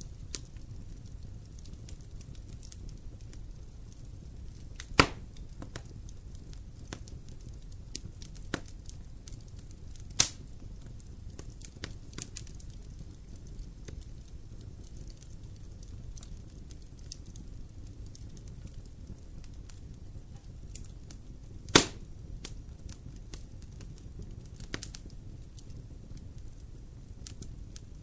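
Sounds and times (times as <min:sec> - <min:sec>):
loud fire pops: 0:00.0 - 0:28.0
wood fire crackling: 0:00.0 - 0:28.0.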